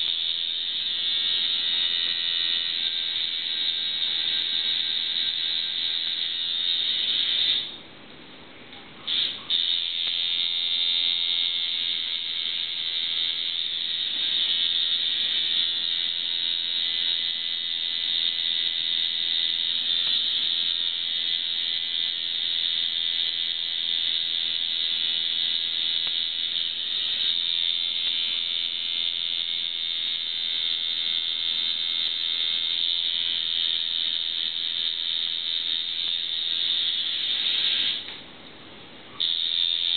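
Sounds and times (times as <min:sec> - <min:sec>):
tattoo machine buzzing: 0:00.0 - 0:07.8, 0:09.1 - 0:38.2, 0:39.2 - 0:39.9.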